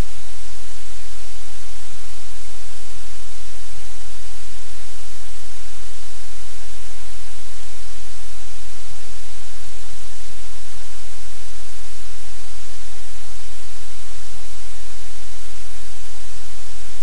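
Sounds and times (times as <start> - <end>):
low electrical hum: 0.0 - 17.0
static hiss: 0.0 - 17.0.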